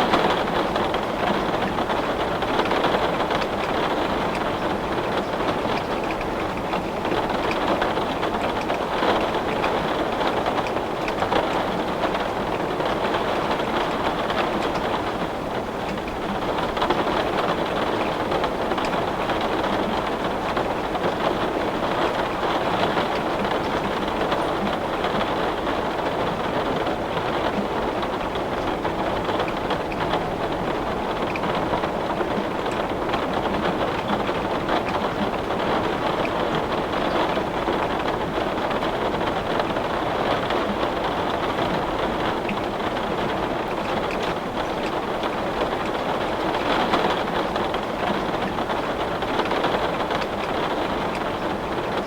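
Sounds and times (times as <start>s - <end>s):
heavy rain on window glass: 0.0s - 52.0s.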